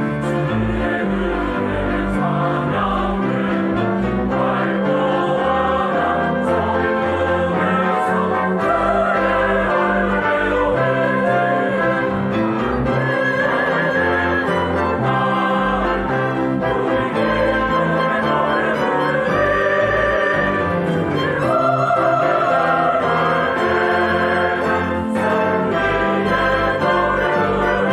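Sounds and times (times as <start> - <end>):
mixed choir singing a hymn: 0.0 - 27.9
small orchestra with violins: 0.0 - 27.9.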